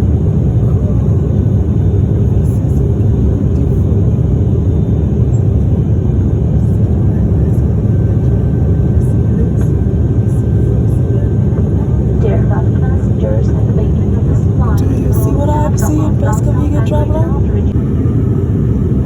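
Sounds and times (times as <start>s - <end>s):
aircraft cabin engine drone: 0.0s - 19.0s.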